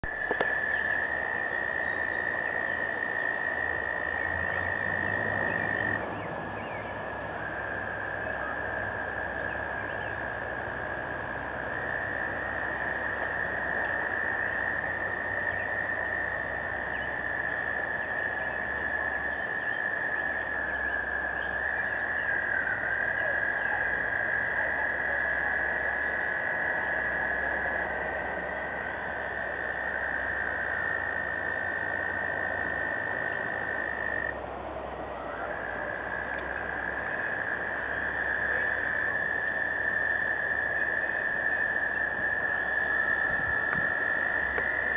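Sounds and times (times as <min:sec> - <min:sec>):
frogs trilling: 0:00.0 - 0:44.9.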